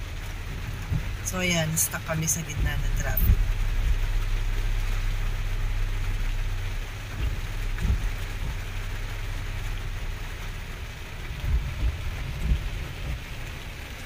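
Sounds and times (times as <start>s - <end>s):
car engine idling: 0.0s - 14.0s
rain pattering on a car roof: 0.0s - 14.0s.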